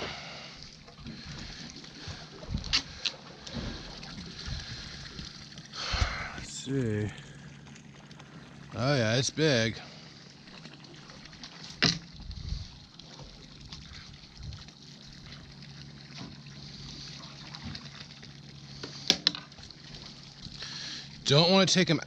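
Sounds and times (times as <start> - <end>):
steady low hum: 0.0 - 22.0
water sloshing against boat hull: 0.0 - 22.0.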